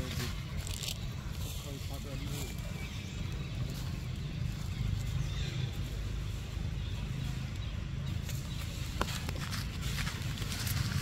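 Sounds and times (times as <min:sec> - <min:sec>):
low forest rumble: 0:00.0 - 0:11.0
rustling of dry leaves: 0:00.0 - 0:11.0.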